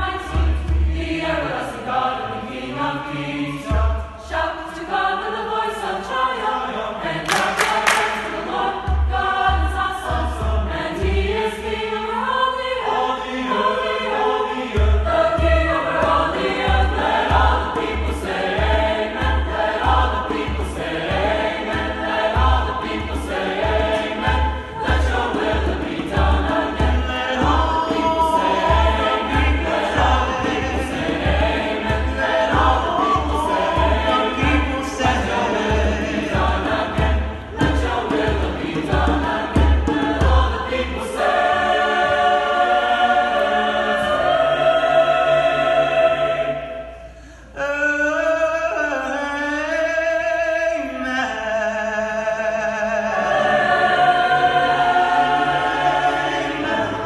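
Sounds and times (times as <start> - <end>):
mixed choir singing gospel: 0.0 - 57.0.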